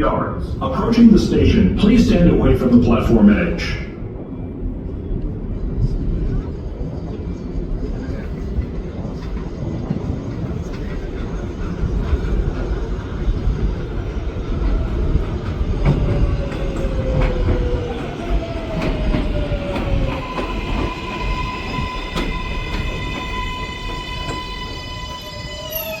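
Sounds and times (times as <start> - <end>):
train wheel rumble: 0.0 - 26.0.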